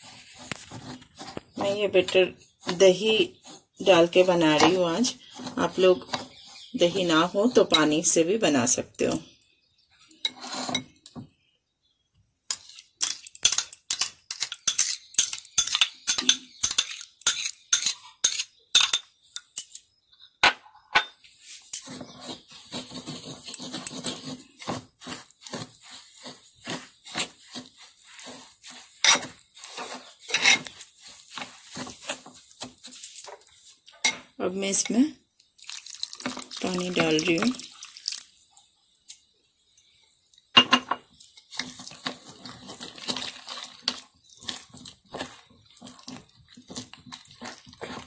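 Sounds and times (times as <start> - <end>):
spoon stirring thick batter: 0.0 - 20.1, 21.2 - 48.0.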